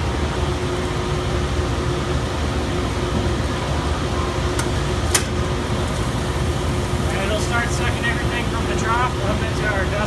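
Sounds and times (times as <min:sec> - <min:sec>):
dust collector air rush and hum: 0:00.0 - 0:10.0.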